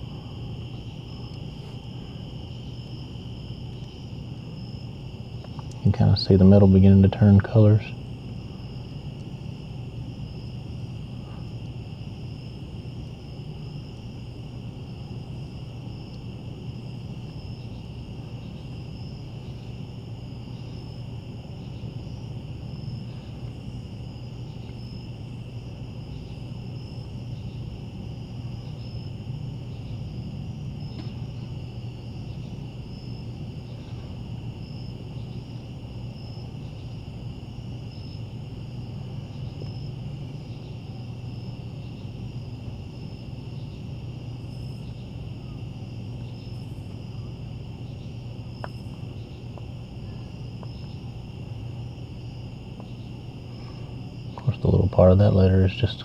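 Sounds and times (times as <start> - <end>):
crickets trilling: 0.0 - 56.0
low steady hum: 0.0 - 56.0.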